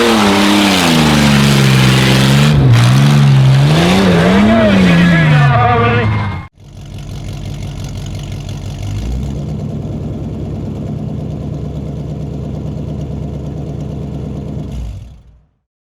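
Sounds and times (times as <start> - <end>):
truck engine idling: 0.0 - 15.6.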